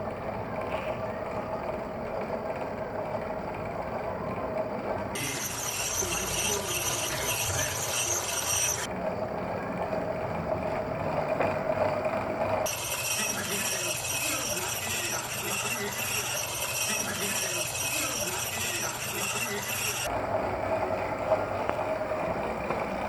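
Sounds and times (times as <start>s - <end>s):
bike trainer humming: 0.0s - 23.0s
high-pitched whine: 0.0s - 23.0s.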